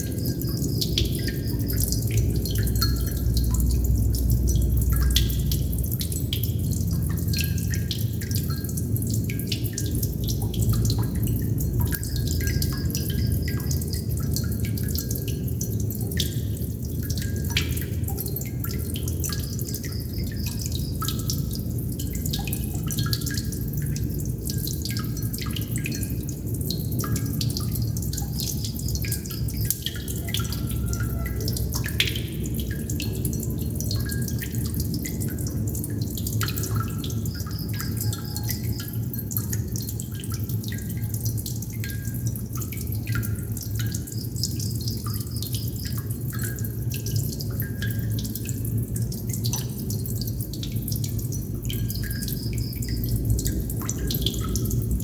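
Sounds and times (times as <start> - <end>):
water droplets dripping: 0.0 - 55.0.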